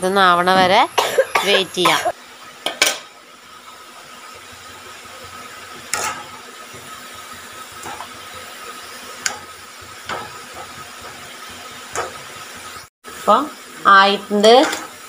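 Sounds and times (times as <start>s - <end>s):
chips sizzling in hot oil: 1.5s - 15.0s.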